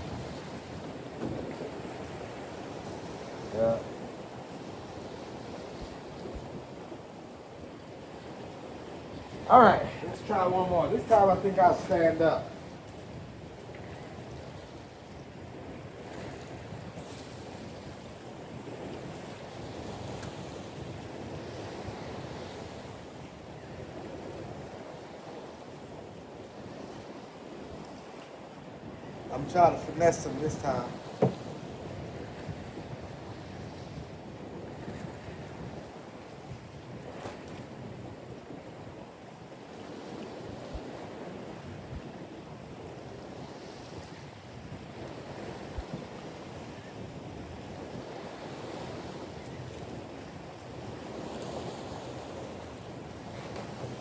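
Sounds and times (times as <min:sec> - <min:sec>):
surf: 0:00.0 - 0:54.0
waves washing in: 0:00.0 - 0:54.0
wind: 0:00.0 - 0:54.0.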